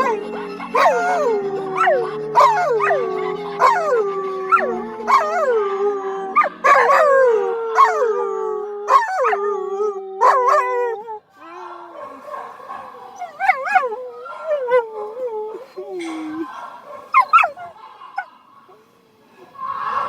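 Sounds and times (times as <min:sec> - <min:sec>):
dogs howling: 0:00.0 - 0:18.9, 0:19.6 - 0:20.0
quiet backing music: 0:00.0 - 0:20.0.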